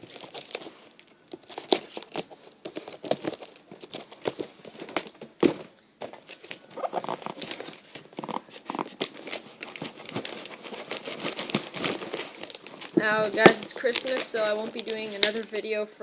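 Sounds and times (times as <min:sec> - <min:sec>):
packaging rustling and crinkling: 0:00.0 - 0:15.8.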